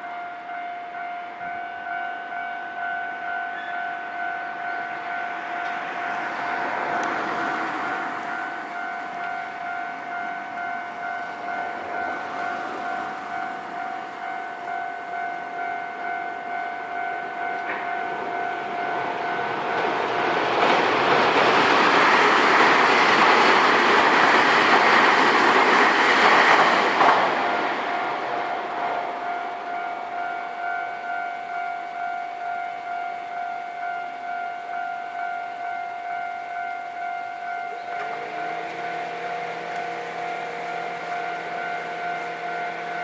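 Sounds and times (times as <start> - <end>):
level crossing bell ringing: 0.0 - 20.4, 27.5 - 43.0
train passing: 0.0 - 43.0.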